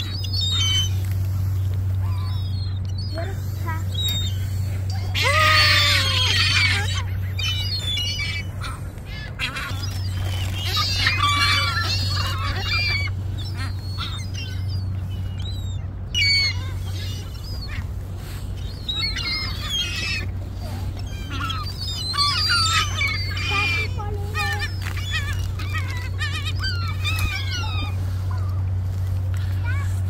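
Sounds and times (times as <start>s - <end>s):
gulls squawking: 0.0s - 30.0s
steady low rumble: 0.0s - 30.0s.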